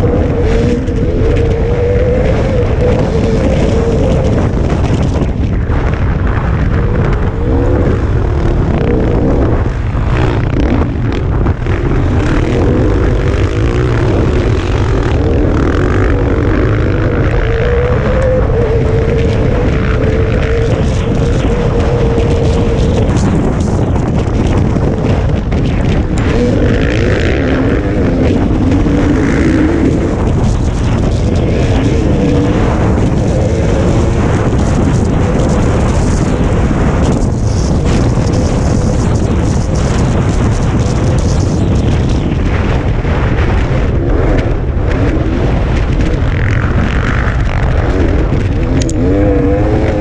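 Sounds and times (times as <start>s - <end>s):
dirt bike engine revving: 0.0s - 50.0s
riding noise rush: 0.0s - 50.0s
second dirt bike engine: 0.0s - 50.0s
wind rumble on microphone: 0.0s - 50.0s.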